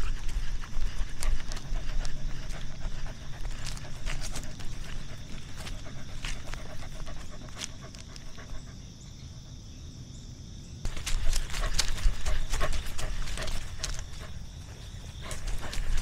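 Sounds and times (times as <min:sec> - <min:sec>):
dog panting: 0:00.0 - 0:09.0, 0:10.9 - 0:16.0.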